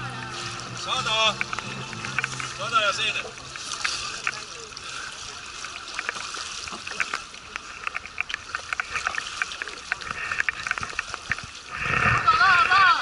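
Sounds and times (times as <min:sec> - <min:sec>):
water splashing and lapping: 0:00.0 - 0:13.0.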